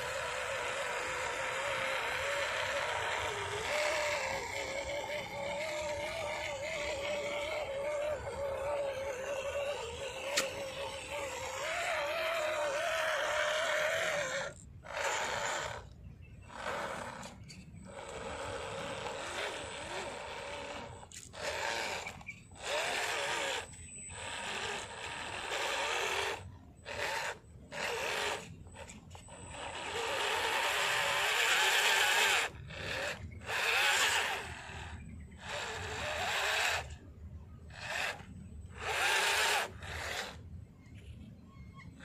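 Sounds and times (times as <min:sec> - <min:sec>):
electric motor and gearbox whining: 0:00.0 - 0:42.0.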